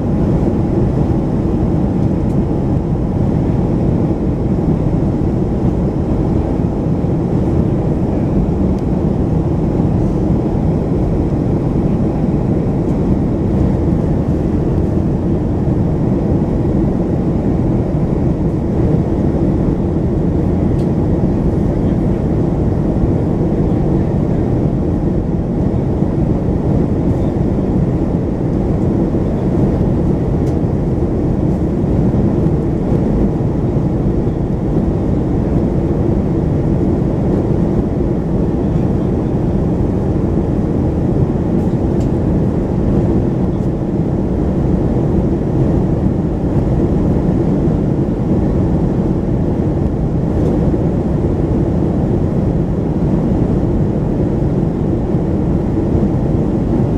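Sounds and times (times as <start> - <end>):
airplane cabin engine drone: 0.0 - 56.9.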